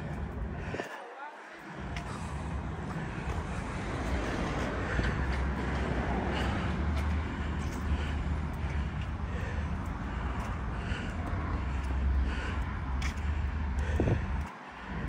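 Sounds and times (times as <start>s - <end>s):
wind buffeting microphone: 1.6s - 15.0s.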